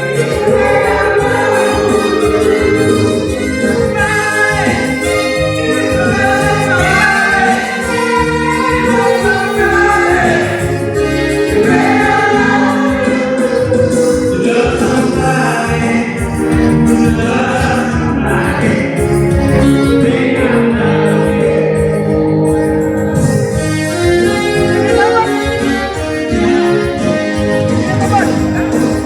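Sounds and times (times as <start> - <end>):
several voices singing together: 0.0 - 23.6
keyboard accompaniment: 0.0 - 29.0
steady beat: 0.0 - 29.0.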